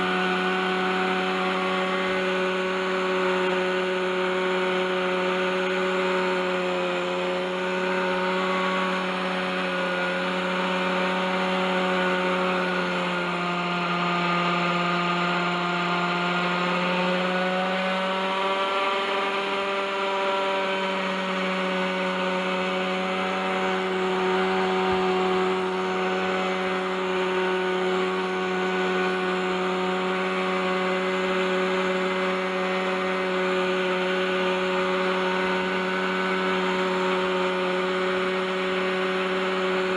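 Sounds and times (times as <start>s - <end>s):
model helicopter engine running: 0.0s - 39.9s.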